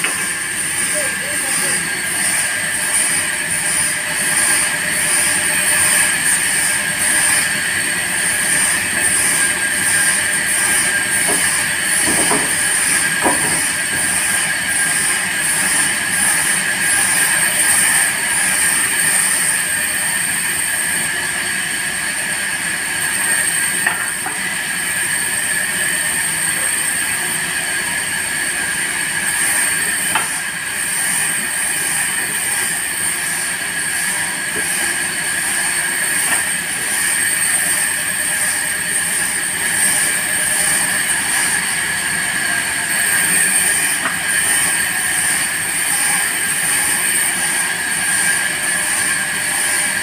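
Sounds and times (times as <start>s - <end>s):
band saw cutting timber: 0.0s - 50.0s.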